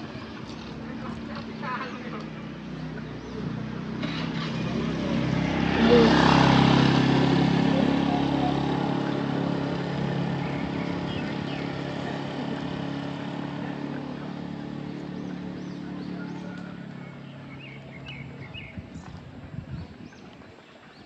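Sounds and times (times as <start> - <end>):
vehicle engine passing by: 0.0 - 20.6.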